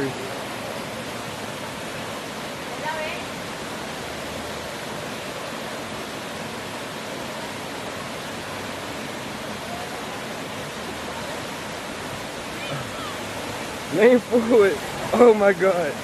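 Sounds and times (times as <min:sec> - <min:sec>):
river water rushing over rock: 0:00.0 - 0:16.0.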